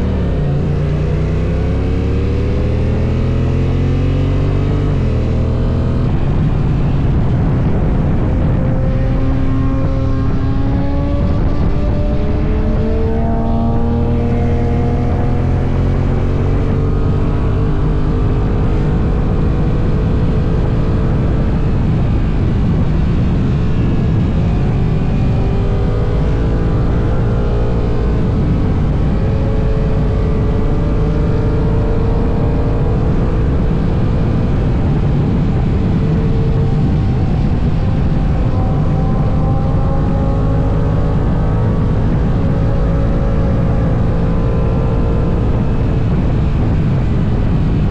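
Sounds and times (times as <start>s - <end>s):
wind and road noise: 0.0s - 47.9s.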